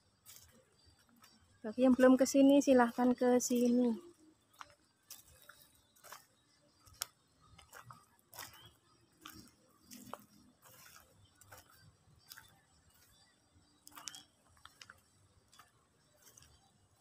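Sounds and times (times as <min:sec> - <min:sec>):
footsteps on dirt path: 0:00.0 - 0:17.0.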